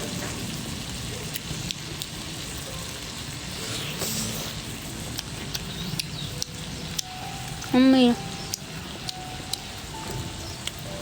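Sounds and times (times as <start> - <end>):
food sizzling: 0.0 - 11.0
wood fire crackling: 0.0 - 11.0.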